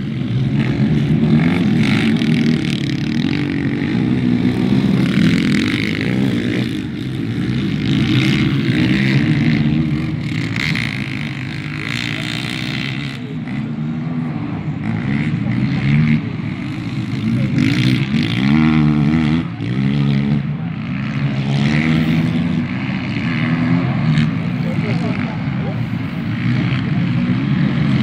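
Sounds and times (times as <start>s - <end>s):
quad bike engines revving: 0.0s - 28.0s.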